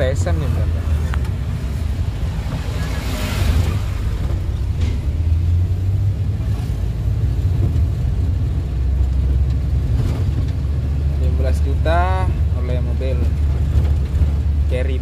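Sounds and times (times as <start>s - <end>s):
van engine and road noise: 0.0s - 15.0s.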